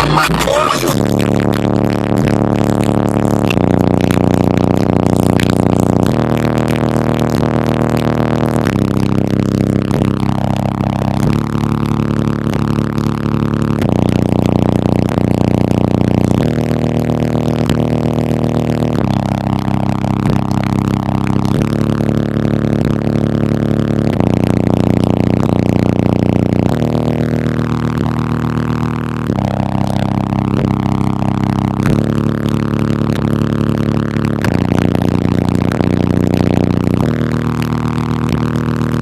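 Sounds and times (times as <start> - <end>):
hip-hop instrumental on car audio: 0.0 - 39.0.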